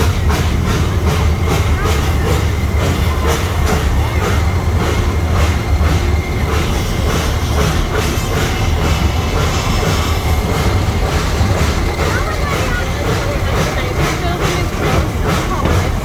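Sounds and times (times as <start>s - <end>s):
regular train clacking: 0.0s - 16.0s
train car rumble: 0.0s - 16.0s.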